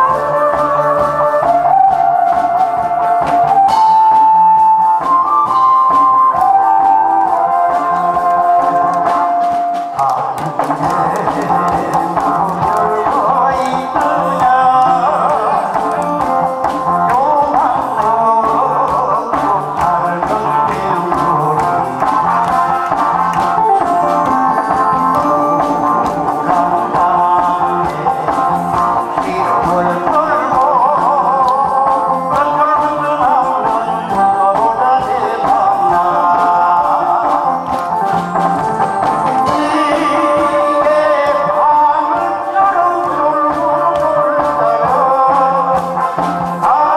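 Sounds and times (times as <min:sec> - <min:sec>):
instrumental accompaniment: 0:00.0 - 0:46.9
man singing into microphone: 0:05.9 - 0:38.4, 0:39.0 - 0:46.9.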